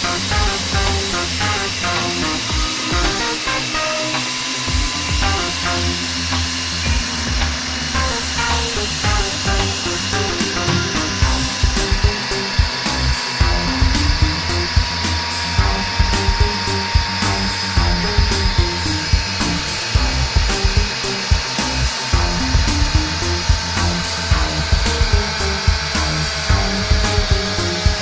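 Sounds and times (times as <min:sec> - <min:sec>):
mixer grinder motor whine: 0:00.0 - 0:28.0
music with steady beat: 0:00.0 - 0:28.0.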